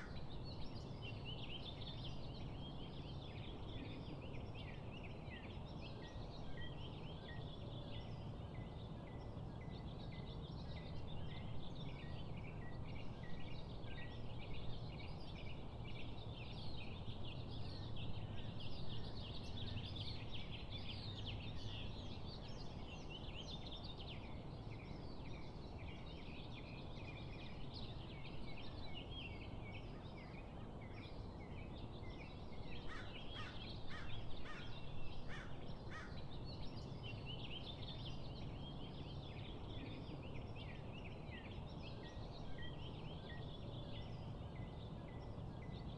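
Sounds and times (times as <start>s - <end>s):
birds chirping and singing: 0.0s - 45.9s.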